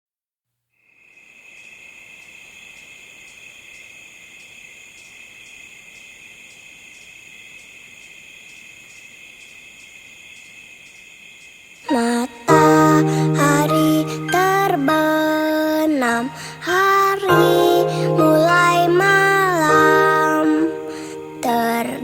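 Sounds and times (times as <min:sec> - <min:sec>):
crickets chirping: 0:00.7 - 0:22.0.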